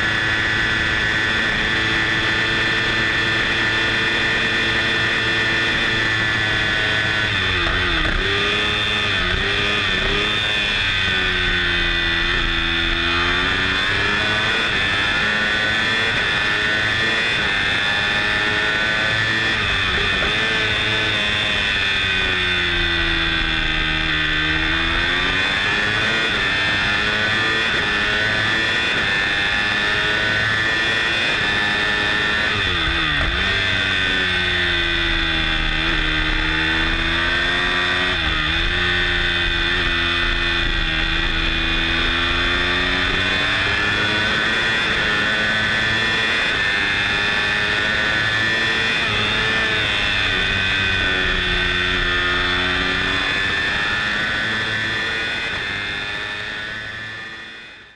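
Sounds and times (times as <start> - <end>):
racing motorcycle engine: 0.0 - 57.9.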